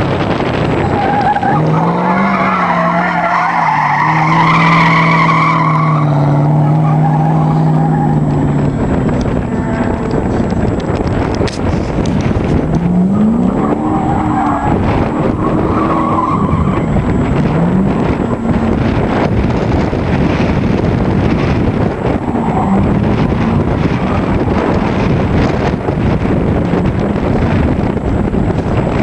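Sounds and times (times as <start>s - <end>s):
car engine revving hard: 0.0s - 28.2s
constant rushing noise: 0.0s - 29.0s
tyres skidding: 0.0s - 29.0s.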